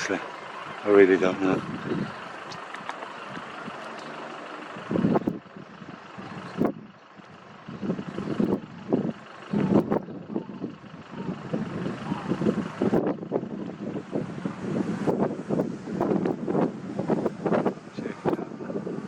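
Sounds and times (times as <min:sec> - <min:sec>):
background rumble: 0:00.0 - 0:19.0
wind buffeting microphone: 0:00.0 - 0:19.0.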